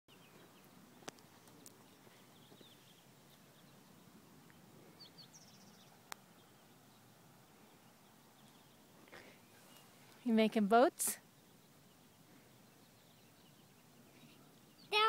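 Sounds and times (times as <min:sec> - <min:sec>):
faint bird chirps: 0:00.1 - 0:10.3, 0:11.2 - 0:15.0.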